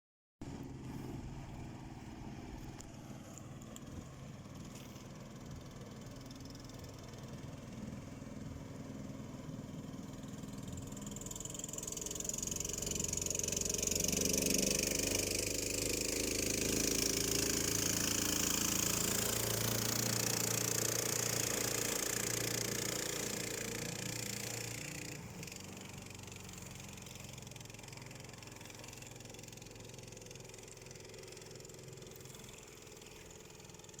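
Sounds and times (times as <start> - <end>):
swamp buggy engine running: 0.4 - 34.0.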